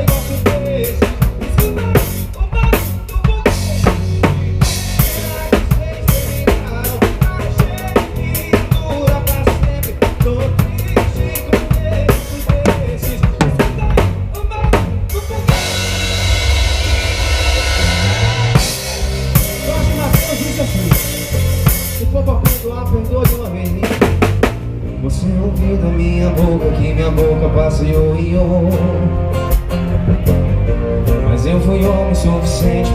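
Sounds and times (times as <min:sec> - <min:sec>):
drum kit playing fast groove: 0:00.0 - 0:24.8, 0:27.9 - 0:32.9.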